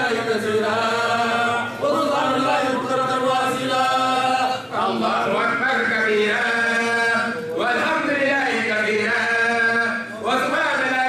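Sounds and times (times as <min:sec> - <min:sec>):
person chanting: 0:00.0 - 0:11.0.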